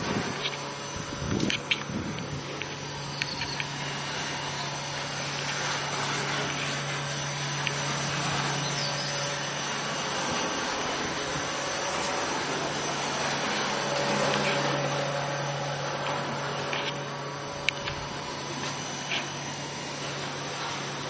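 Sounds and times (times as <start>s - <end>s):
vacuum tumbler humming: 0.0s - 21.0s.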